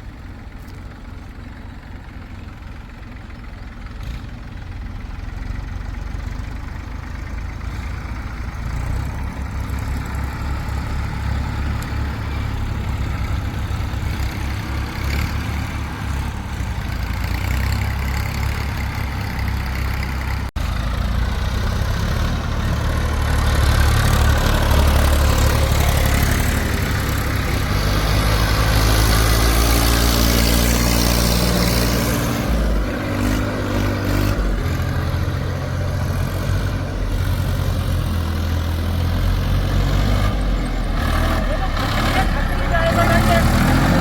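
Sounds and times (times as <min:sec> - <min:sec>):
heavy diesel engine under load: 0:00.0 - 0:44.0.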